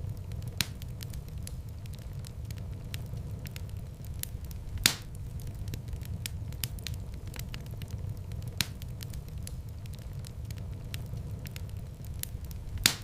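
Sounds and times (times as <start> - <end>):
loud fire pops: 0.0 - 13.0
wood fire crackling: 0.0 - 13.0.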